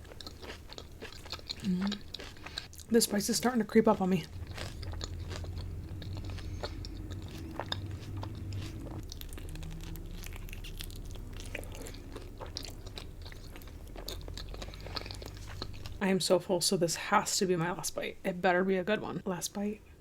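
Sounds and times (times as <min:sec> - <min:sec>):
chewing food: 0:00.0 - 0:16.0
steady low hum: 0:00.0 - 0:18.9.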